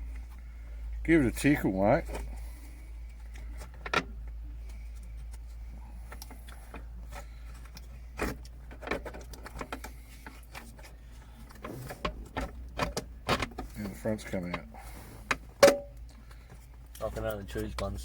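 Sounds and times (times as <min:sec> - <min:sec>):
low steady hum: 0:00.0 - 0:18.0
handling clicks and knocks: 0:02.0 - 0:18.0.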